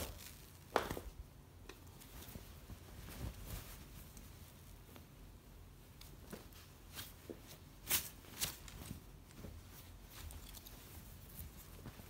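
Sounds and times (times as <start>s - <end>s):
fabric rustling on wooden floor: 0.0s - 12.0s.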